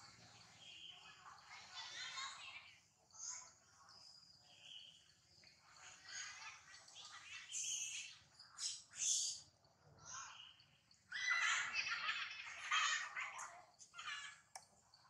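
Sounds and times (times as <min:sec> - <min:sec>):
high chirping animal calls: 0:00.0 - 0:14.5.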